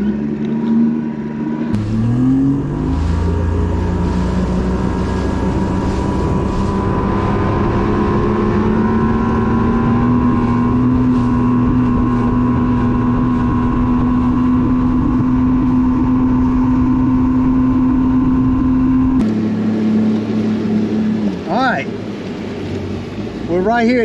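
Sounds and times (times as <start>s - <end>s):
outboard motor running: 0.0s - 24.0s
wind: 0.0s - 24.0s
water rushing: 1.7s - 24.0s.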